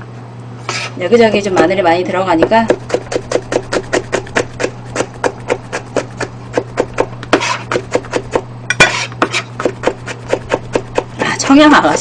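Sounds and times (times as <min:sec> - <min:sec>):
knife chopping on plastic board: 0:02.4 - 0:12.0.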